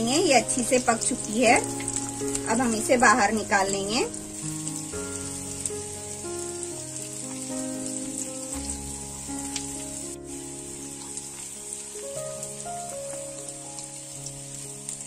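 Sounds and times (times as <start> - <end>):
oil sizzling in grill pan: 0.0 - 15.0
slow background music: 0.0 - 15.0.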